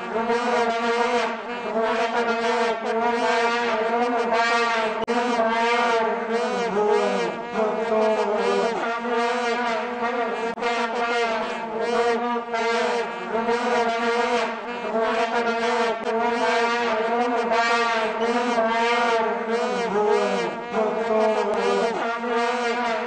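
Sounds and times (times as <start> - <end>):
vuvuzelas droning: 0.0 - 23.0.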